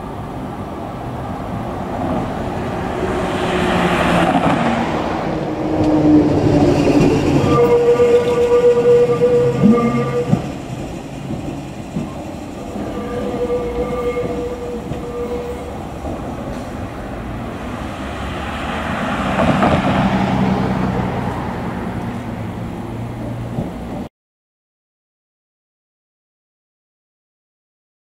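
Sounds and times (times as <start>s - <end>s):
tram whine: 0.0s - 24.1s
wheels rumbling over rails: 0.0s - 24.1s.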